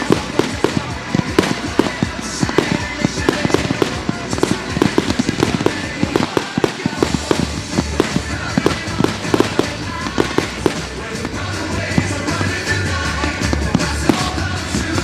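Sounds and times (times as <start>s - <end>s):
background music: 0.0s - 15.0s
fireworks bangs and pops: 0.0s - 15.0s.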